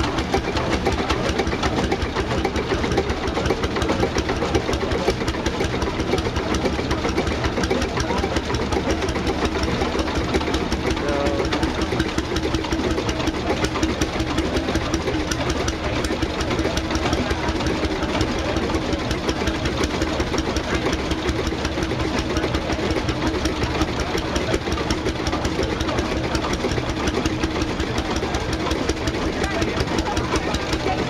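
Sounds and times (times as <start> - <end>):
stationary engine idling: 0.0 - 31.0.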